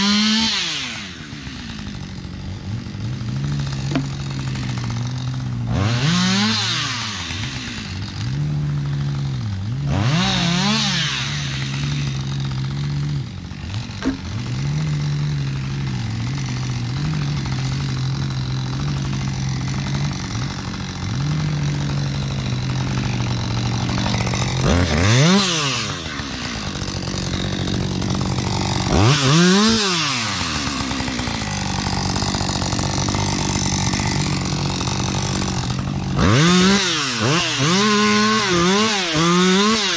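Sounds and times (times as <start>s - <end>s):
chainsaw engine idling and revving: 0.0s - 39.9s.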